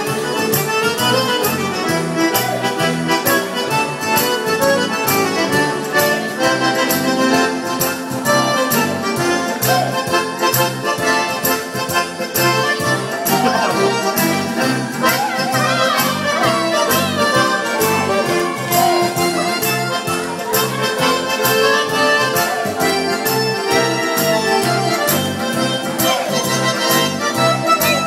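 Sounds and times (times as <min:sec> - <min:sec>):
accordion music: 0:00.0 - 0:28.0.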